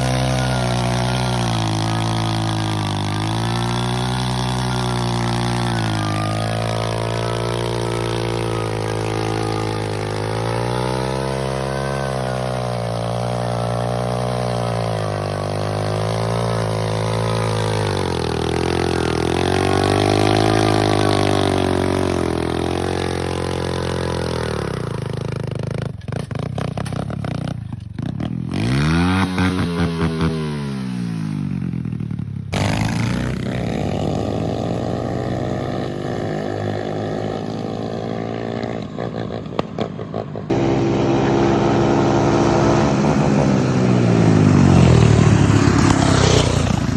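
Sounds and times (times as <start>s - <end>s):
minibike engine revving: 0.0s - 46.9s.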